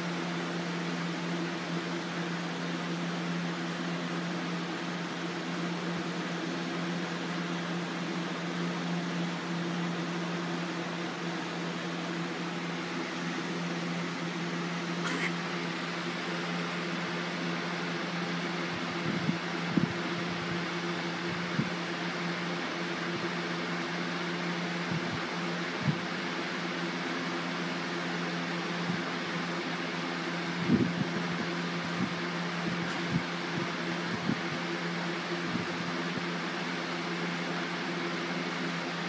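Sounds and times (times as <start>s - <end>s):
electric fan humming: 0.0s - 39.0s.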